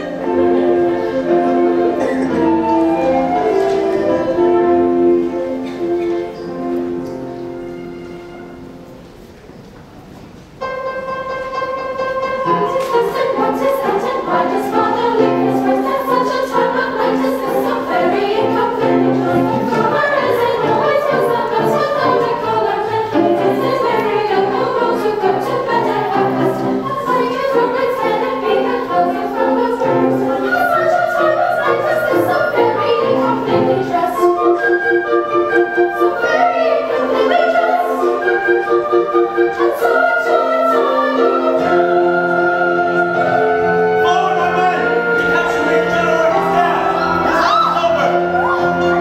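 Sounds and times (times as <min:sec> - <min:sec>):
choral singing: 0:00.0 - 0:09.1, 0:10.6 - 0:49.0
orchestra playing operetta music: 0:00.0 - 0:09.4, 0:10.3 - 0:49.0.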